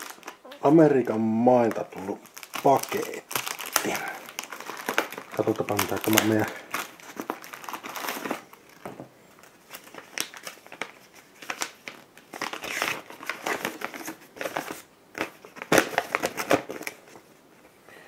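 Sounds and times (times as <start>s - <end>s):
package and papers crinkling: 0.0s - 17.3s.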